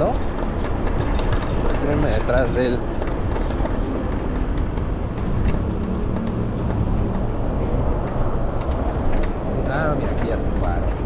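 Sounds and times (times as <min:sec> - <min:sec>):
motor vehicle running close by: 0:00.0 - 0:11.0
road traffic: 0:00.0 - 0:11.0
wind rumble on microphone: 0:00.0 - 0:11.0.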